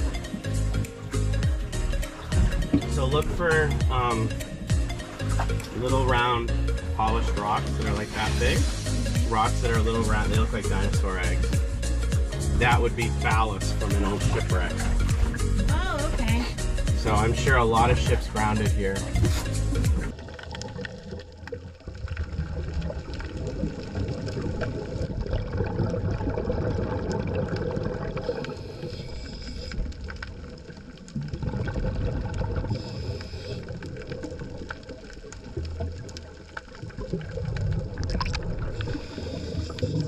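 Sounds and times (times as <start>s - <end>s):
muffled underwater water rushing: 0.0s - 40.0s
scuba exhalation bubbles gurgling: 0.0s - 40.0s.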